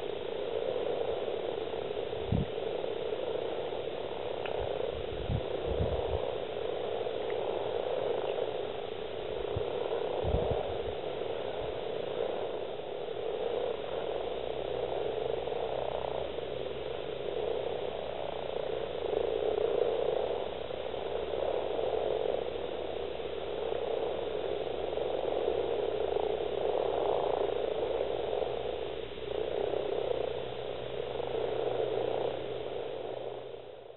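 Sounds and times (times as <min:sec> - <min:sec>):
chorus of frogs croaking: 0:00.0 - 0:33.9.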